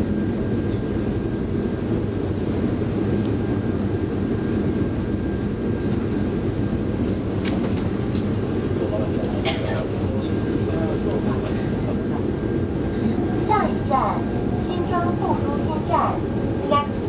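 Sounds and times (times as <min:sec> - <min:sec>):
train car rumble and hum: 0:00.0 - 0:17.0.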